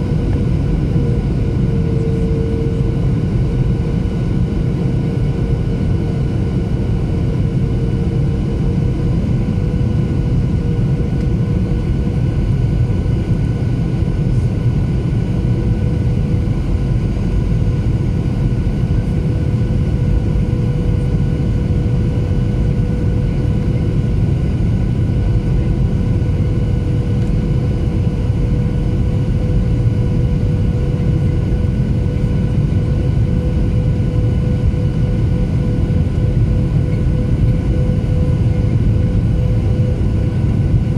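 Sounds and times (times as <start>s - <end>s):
humming engine tones: 0.0s - 40.9s
jet engine rumble in cabin: 0.0s - 40.9s.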